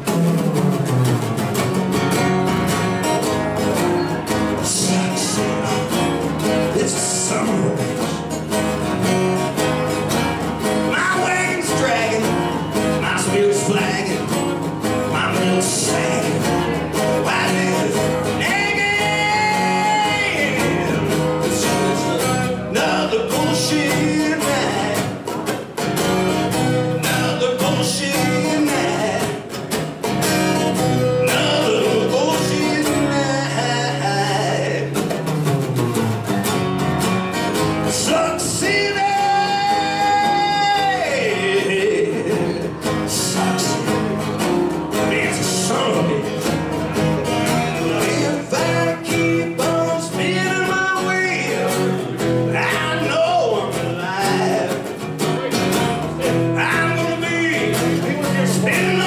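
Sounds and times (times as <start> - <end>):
acoustic guitar strumming: 0.0 - 59.0
man singing: 3.2 - 25.5, 26.4 - 35.2, 37.6 - 59.0.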